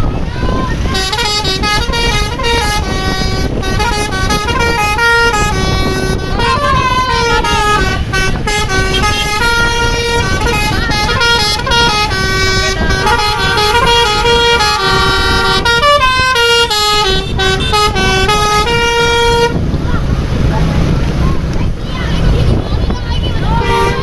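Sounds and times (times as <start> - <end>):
low vehicle rumble: 0.0 - 24.0
multi-tone air horn tune: 0.8 - 19.6, 23.5 - 24.0.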